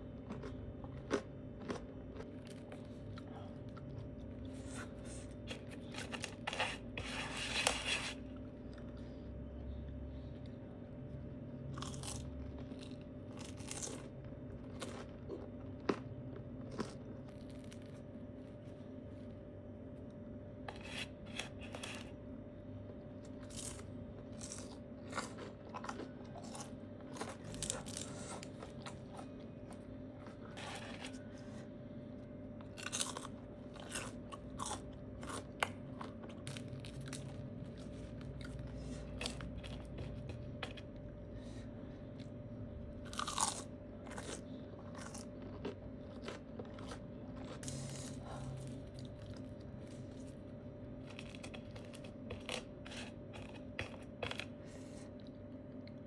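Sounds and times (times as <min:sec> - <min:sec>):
crunchy chips being chewed: 0:00.0 - 0:09.1, 0:11.6 - 0:19.3, 0:23.2 - 0:31.4, 0:32.6 - 0:41.0, 0:42.2 - 0:56.0
low background hum: 0:00.0 - 0:56.0.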